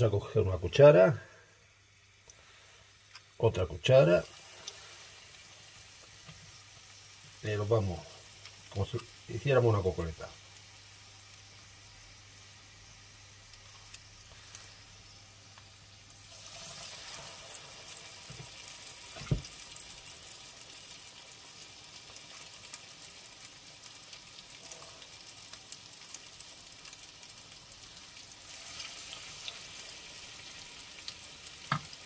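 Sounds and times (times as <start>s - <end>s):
oil sizzling in a pan: 0.0s - 32.0s.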